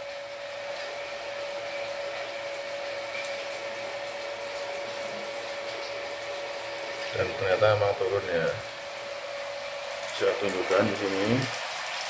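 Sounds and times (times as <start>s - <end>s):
steady humming tone: 0.0s - 12.0s.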